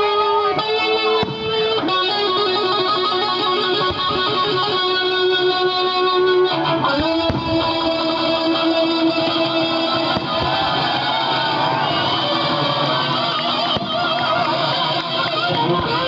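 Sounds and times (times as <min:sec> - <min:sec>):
guitar music: 0:00.0 - 0:16.0.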